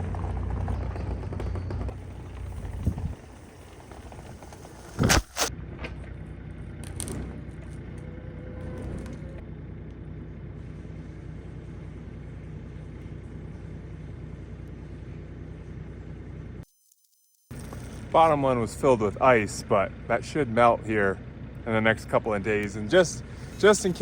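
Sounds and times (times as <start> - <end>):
engine idling: 0.0 - 16.6, 17.5 - 24.0.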